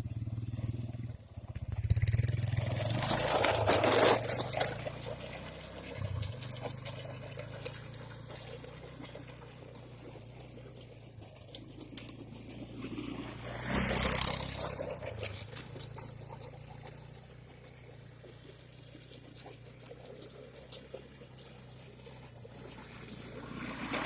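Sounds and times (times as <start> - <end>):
atv engine running: 0.0 - 24.0
loud rough crunching: 1.6 - 24.0.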